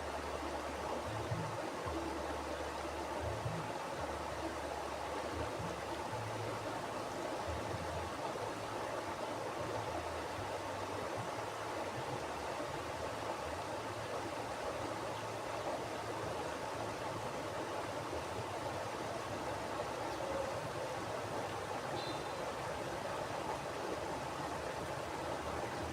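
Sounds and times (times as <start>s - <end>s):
river rushing over rocks: 0.0s - 25.9s.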